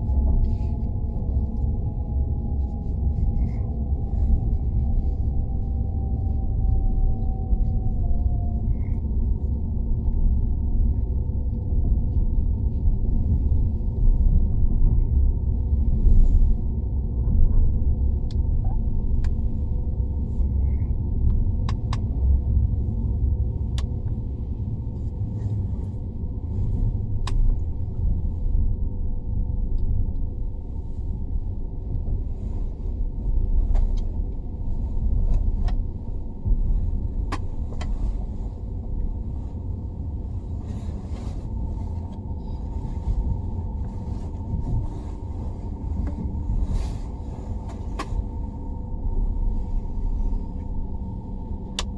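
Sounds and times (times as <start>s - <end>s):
faint steady hum: 0.0s - 51.9s
train rumbling inside carriage: 0.0s - 51.9s.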